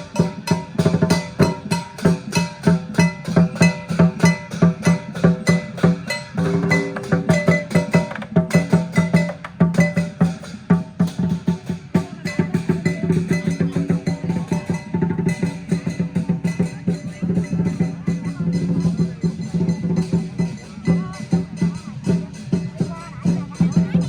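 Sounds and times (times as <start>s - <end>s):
drum beaten fast: 0.0s - 24.0s.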